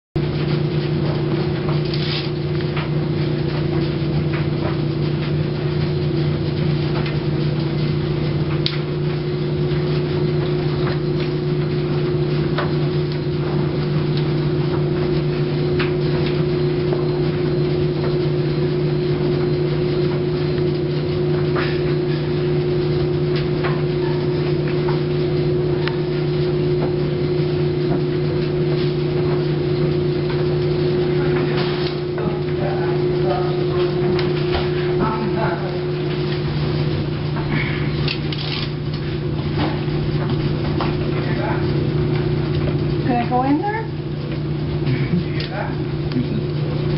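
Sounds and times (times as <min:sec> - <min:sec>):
appliance machine hum: 0:00.2 - 0:46.9.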